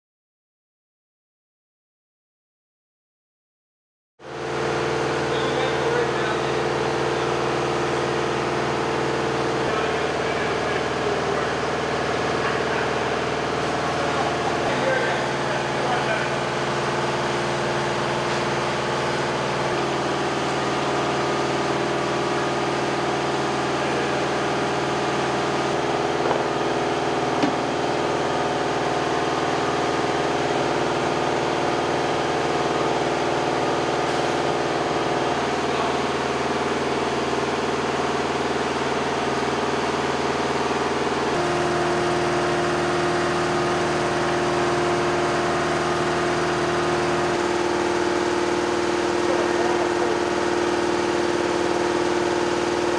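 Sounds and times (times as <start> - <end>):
machinery droning: 4.3 - 52.9.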